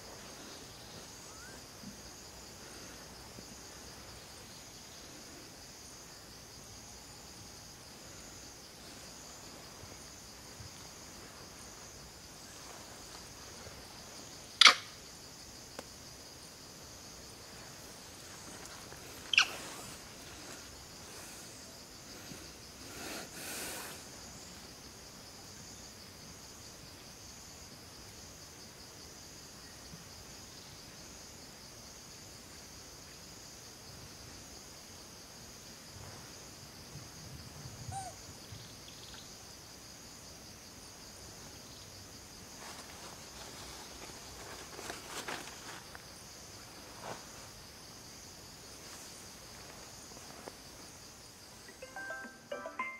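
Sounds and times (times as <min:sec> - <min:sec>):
insects buzzing in chorus: 0:00.0 - 0:52.8.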